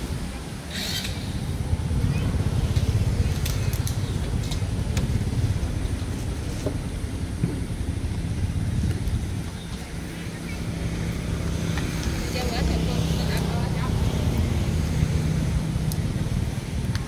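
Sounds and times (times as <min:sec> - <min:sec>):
low flickering rumble: 0:00.0 - 0:17.0.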